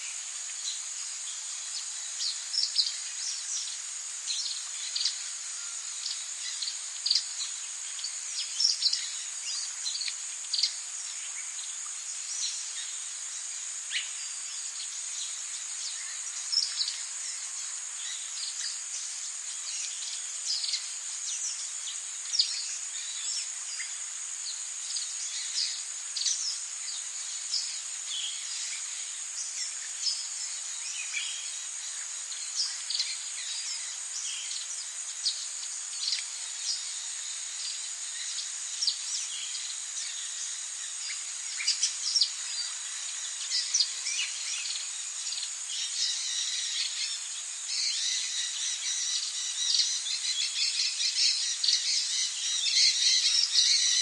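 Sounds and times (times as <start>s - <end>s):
insect drone: 0.0s - 54.0s.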